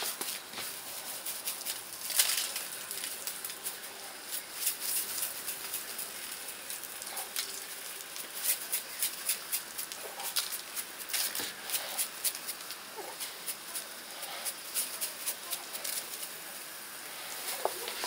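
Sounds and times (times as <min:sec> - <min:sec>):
fat popping and crackling: 0:00.0 - 0:18.0
meat sizzling on a grill: 0:00.0 - 0:18.0.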